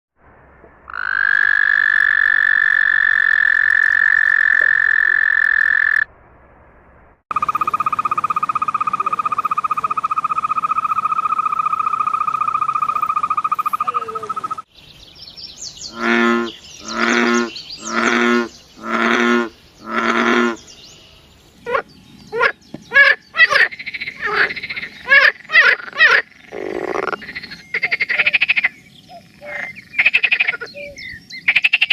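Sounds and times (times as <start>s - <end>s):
frog croaks: 0.9s - 6.1s, 7.3s - 14.7s, 15.9s - 20.6s, 21.6s - 31.9s
frog trilling: 0.9s - 6.1s, 7.3s - 14.7s, 15.9s - 20.6s, 21.7s - 31.9s
overlapping frog calls: 0.9s - 6.1s, 7.3s - 14.7s, 15.9s - 20.6s, 21.7s - 31.9s.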